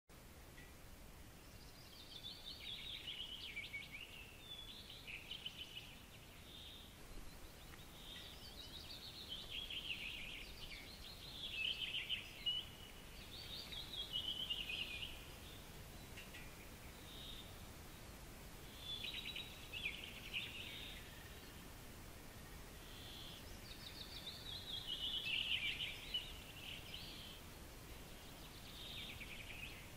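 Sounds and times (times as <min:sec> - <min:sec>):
faint steady hiss: 0:00.1 - 0:29.9
songbird chirping: 0:00.1 - 0:29.9.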